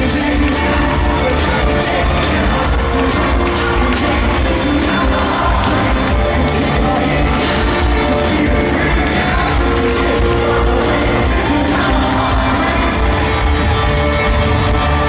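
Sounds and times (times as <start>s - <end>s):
man singing: 0.0s - 13.6s
crowd voices: 0.0s - 15.0s
live pop-rock band: 0.0s - 15.0s.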